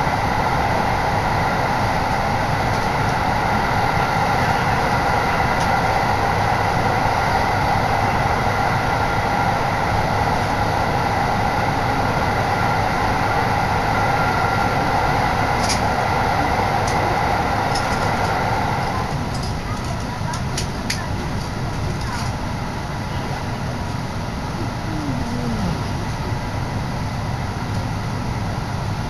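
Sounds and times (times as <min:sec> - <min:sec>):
train rolling noise inside carriage: 0:00.0 - 0:29.0.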